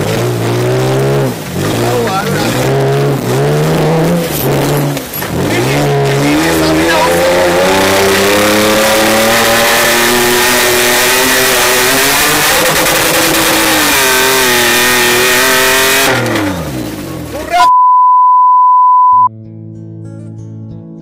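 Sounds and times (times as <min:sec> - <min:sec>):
vehicle engine at high revs: 0:00.0 - 0:17.5.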